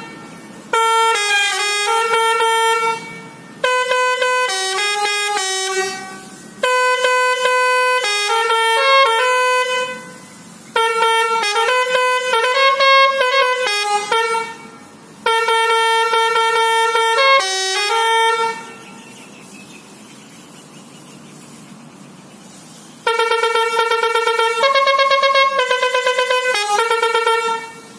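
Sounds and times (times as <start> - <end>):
musical air horn playing tunes: 0.0 - 19.1, 23.0 - 27.9.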